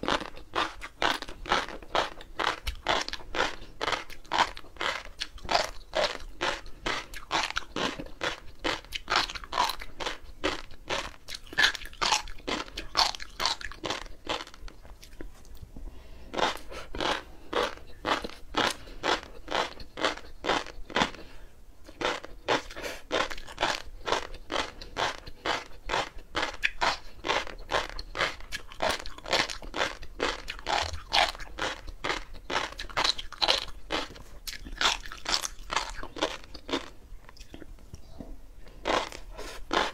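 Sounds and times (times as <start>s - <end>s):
chewing with crisp pops: 0.0s - 15.7s, 16.3s - 39.9s.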